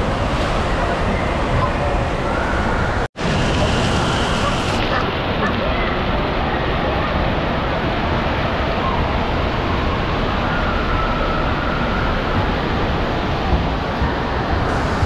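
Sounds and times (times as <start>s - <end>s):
rushing splashing water: 0.0s - 15.0s.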